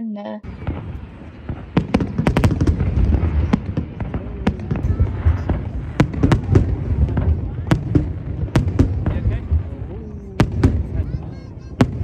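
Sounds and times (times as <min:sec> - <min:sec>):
fireworks cracking and banging: 0:00.4 - 0:12.0.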